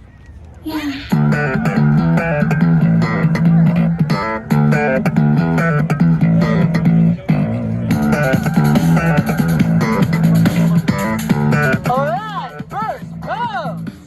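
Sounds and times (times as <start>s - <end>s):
loud rock music: 1.1s - 14.0s.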